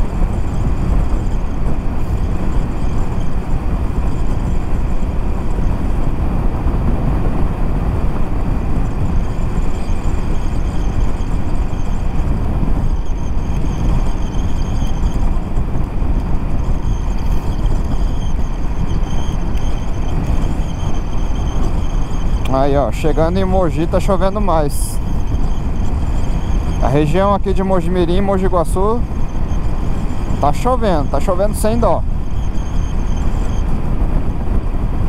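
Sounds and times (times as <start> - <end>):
faint high whine: 0.0 - 35.0
motorcycle engine running: 0.0 - 35.0
wind rush: 0.0 - 35.0.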